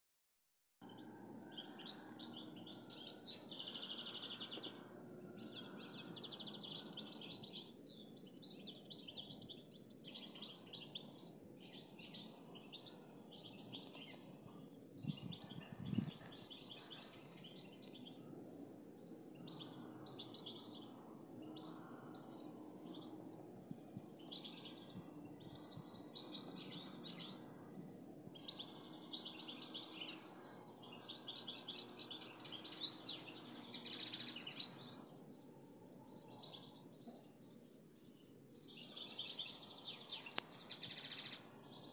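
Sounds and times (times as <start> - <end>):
goldfinch twittering song: 0.8 - 4.8, 5.4 - 41.9.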